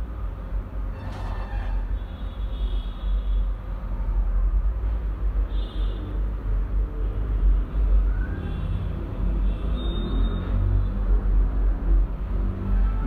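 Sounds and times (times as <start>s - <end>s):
loud continuous low rumble: 0.0s - 13.0s.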